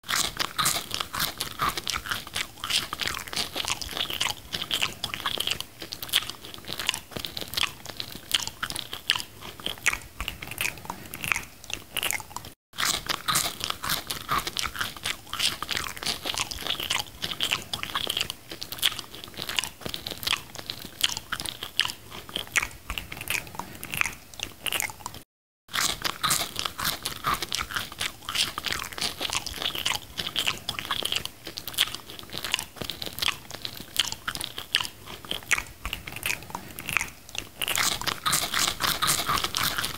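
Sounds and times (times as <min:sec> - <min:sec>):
crisp crunching and chewing: 0:00.0 - 0:39.9.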